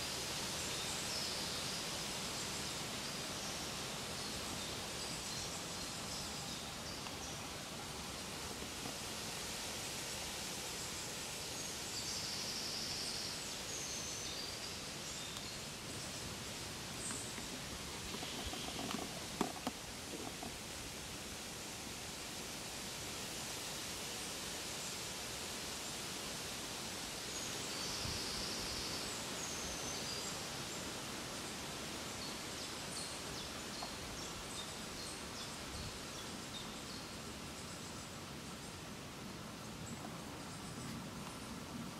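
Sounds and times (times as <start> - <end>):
outdoor ambient noise: 0.0 - 41.9
woodland background hiss: 0.0 - 41.9.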